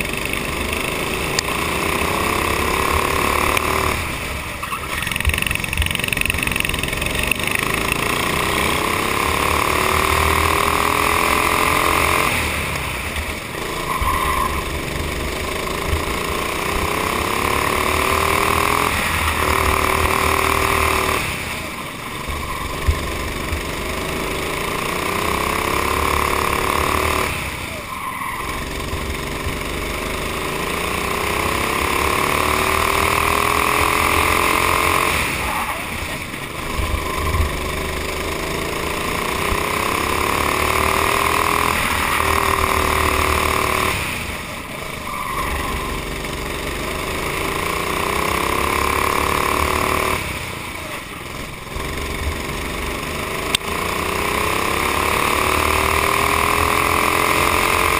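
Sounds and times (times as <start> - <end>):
kart engine revving: 0.0 - 57.9.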